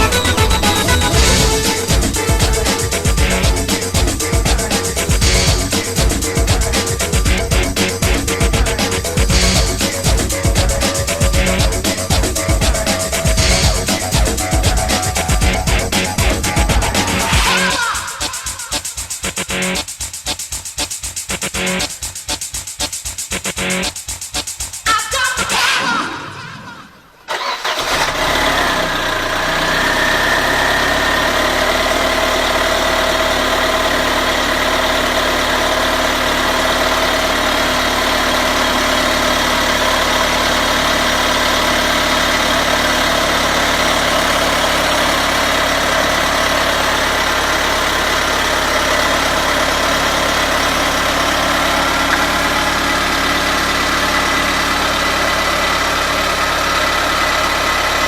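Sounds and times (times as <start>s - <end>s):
car engine starting and idling: 0.0s - 18.7s, 27.2s - 58.0s.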